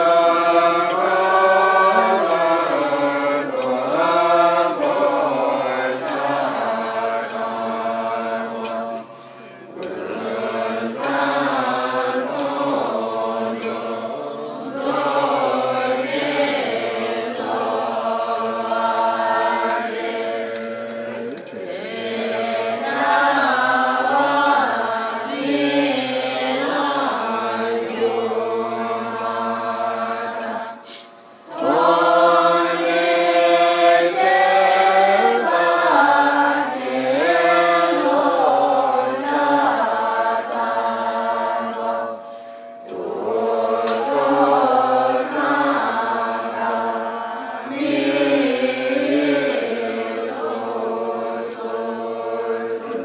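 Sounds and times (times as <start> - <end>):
group chanting prayers: 0.0 - 53.0.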